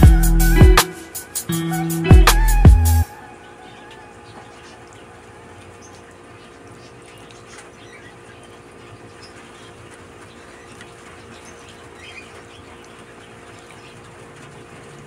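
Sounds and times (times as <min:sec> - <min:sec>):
faint hum: 0:00.6 - 0:14.8.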